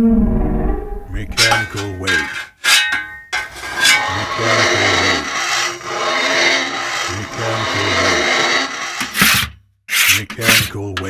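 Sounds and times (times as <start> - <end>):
metal grinding against metal: 1.0 - 10.8.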